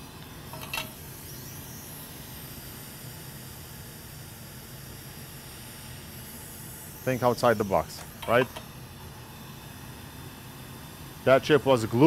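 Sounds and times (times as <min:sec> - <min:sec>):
hot-air station hissing: 0:00.0 - 0:12.0.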